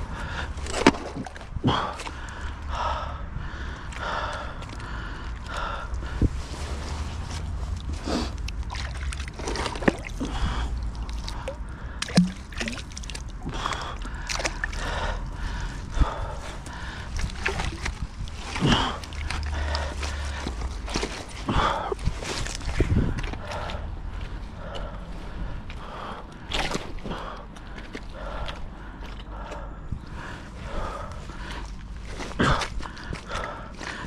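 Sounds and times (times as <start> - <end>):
heavy breathing: 0.0 - 0.9, 1.5 - 8.5, 9.9 - 34.0
wet mud shifting: 0.0 - 2.7, 3.5 - 34.0
water sloshing and gurgling: 0.0 - 34.0.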